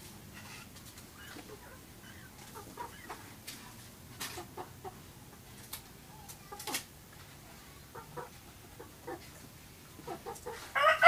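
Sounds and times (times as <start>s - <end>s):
chickens clucking: 0.3s - 11.0s.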